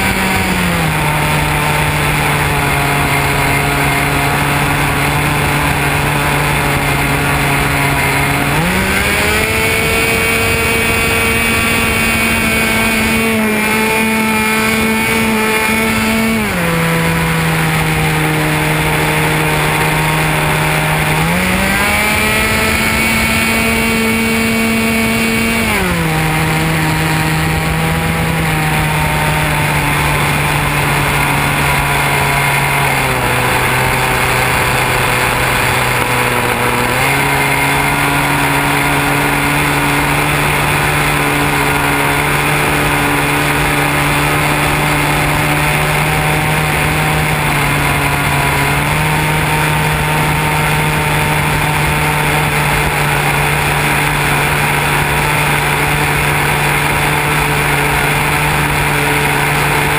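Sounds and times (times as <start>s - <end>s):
model airplane motor droning: 0.0s - 59.9s.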